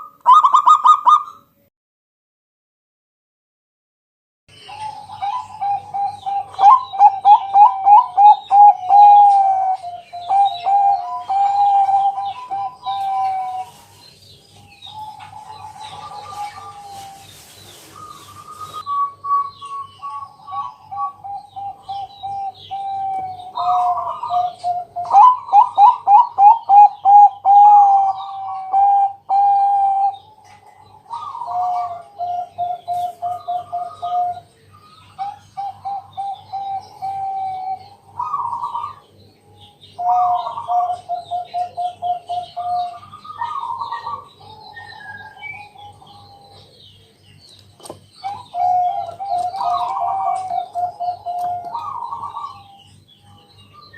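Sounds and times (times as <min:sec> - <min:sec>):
dove cooing: 0:00.0 - 0:01.4, 0:04.6 - 0:46.9, 0:48.2 - 0:53.9.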